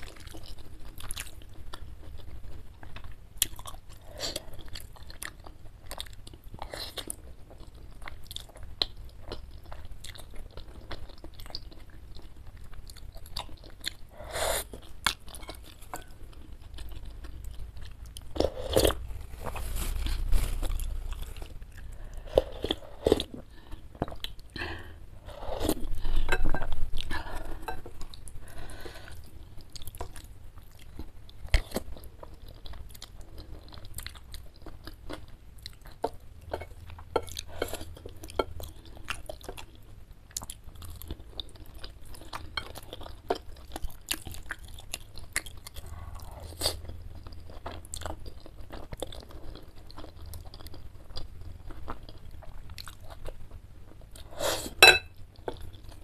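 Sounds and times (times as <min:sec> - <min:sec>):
food crunching: 0:00.0 - 0:56.0.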